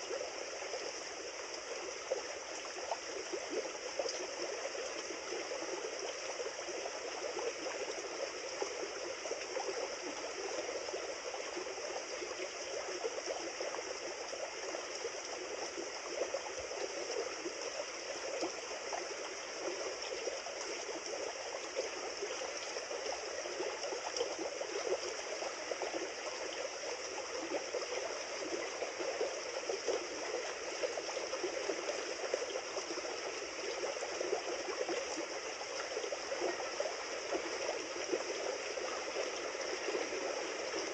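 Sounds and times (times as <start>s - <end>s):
river water flowing over stones: 0.0s - 40.9s.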